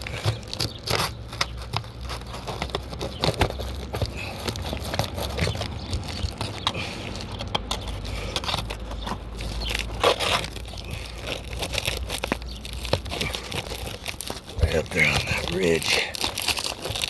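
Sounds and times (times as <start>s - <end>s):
loud crunch: 0.0s - 17.0s
roof shingles crackling and scraping: 0.0s - 17.0s.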